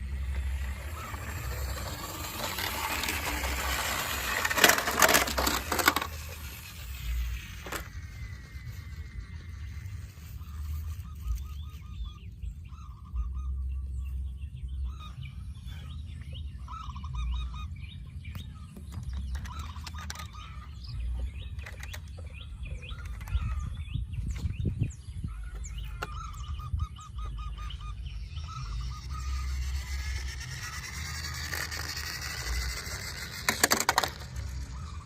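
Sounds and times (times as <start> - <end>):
bird-like chirping: 6.2 - 35.0.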